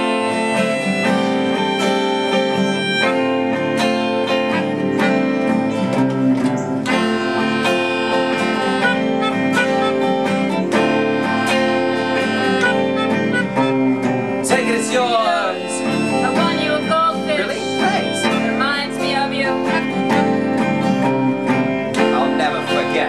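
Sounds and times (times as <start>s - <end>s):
sustained melodica notes: 0.0s - 5.9s, 6.5s - 23.0s
strummed guitar: 0.0s - 23.0s.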